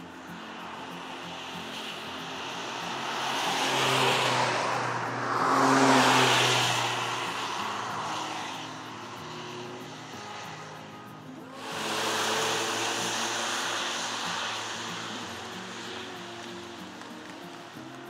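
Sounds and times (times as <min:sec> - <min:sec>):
tyres hissing on wet tarmac: 0:00.0 - 0:18.0
car engine driving past: 0:00.8 - 0:10.7, 0:11.6 - 0:17.9.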